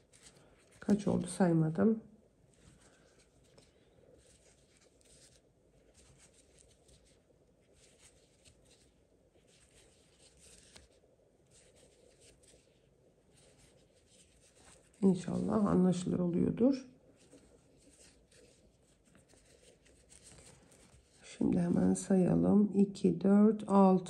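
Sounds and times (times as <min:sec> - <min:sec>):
crochet hook scratchy rustles: 0:00.0 - 0:01.8, 0:02.5 - 0:22.0.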